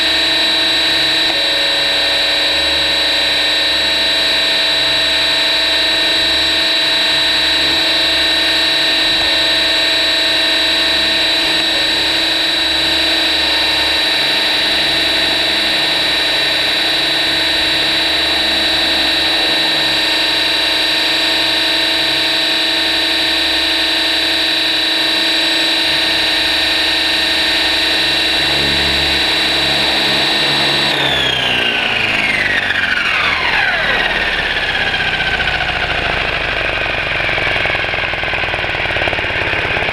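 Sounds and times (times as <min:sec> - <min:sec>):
helicopter motor and rotor whine: 0:00.0 - 0:39.9.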